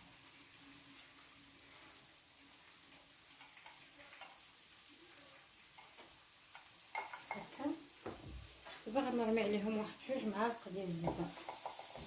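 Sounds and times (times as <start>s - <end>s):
fish sizzling in a pan: 0.0s - 12.0s.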